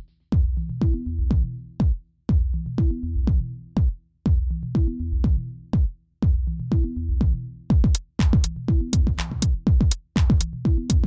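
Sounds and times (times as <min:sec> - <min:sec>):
electronic music with drum-machine beat: 0:00.0 - 0:11.0.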